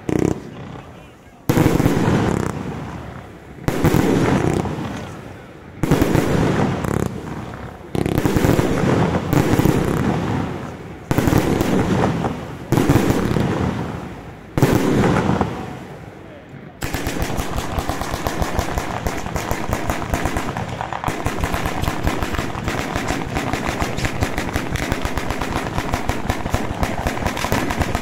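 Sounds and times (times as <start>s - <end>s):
firework bangs: 0.0s - 16.1s, 16.8s - 28.0s
firework crackling: 0.0s - 28.0s.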